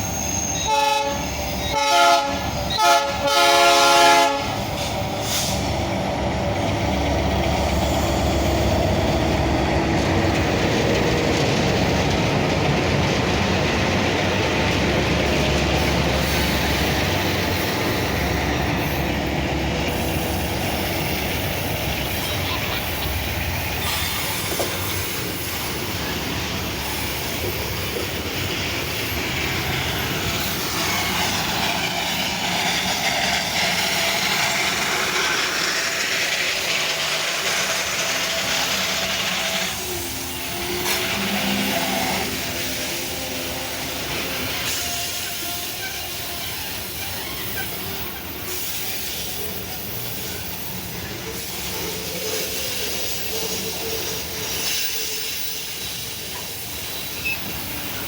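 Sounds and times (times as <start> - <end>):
freight train wheels on rails: 0.0 - 58.0
train wheel squeal: 0.0 - 58.0.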